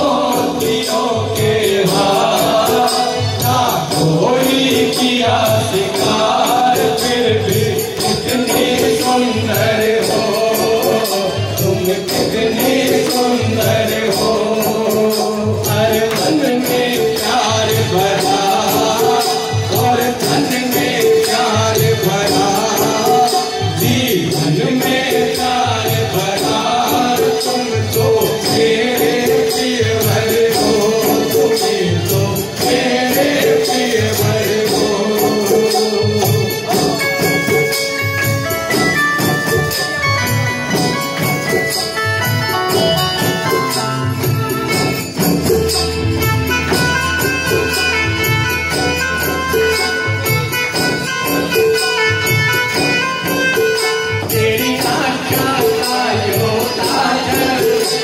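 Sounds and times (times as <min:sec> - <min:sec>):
man singing into a microphone: 0:00.0 - 0:40.0, 0:43.2 - 0:58.0
hand drum beating: 0:00.0 - 0:58.0
jingling percussion: 0:00.0 - 0:58.0.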